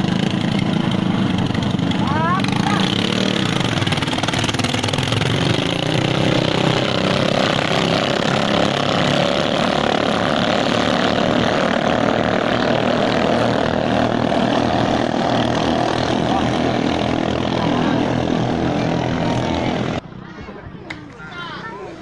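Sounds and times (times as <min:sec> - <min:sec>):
boat engines droning: 0:00.0 - 0:22.0.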